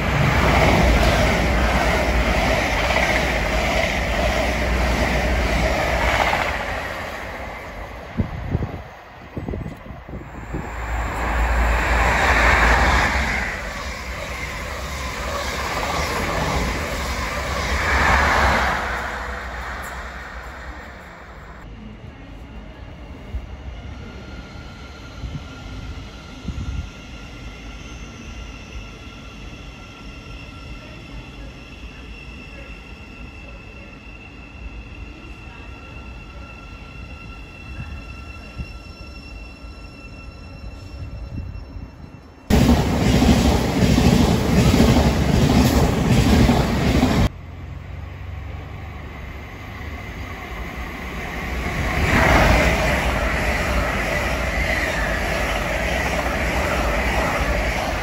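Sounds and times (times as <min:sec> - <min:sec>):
train passing: 0:00.0 - 0:58.0.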